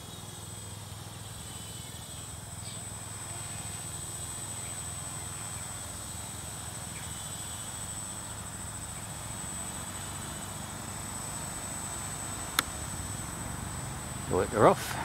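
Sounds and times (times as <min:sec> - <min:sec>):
distant quadcopter humming: 0:00.0 - 0:15.0
thin high whine: 0:00.0 - 0:15.0.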